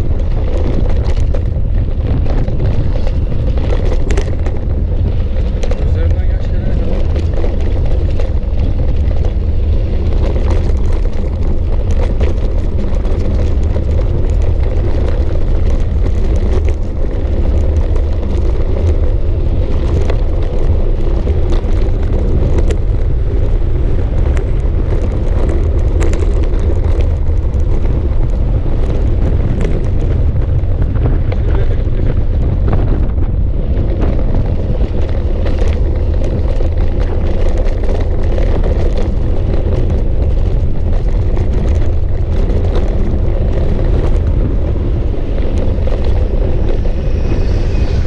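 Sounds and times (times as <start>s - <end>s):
small clicks and rattles: 0.0s - 32.2s, 33.7s - 48.0s
bicycle tyres rolling on gravel: 0.0s - 48.0s
wind buffeting microphone: 0.0s - 48.0s.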